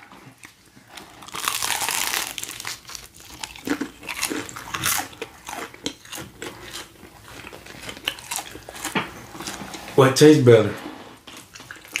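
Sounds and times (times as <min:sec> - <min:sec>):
person chewing crispy chicken: 0:00.0 - 0:09.6, 0:11.3 - 0:12.0.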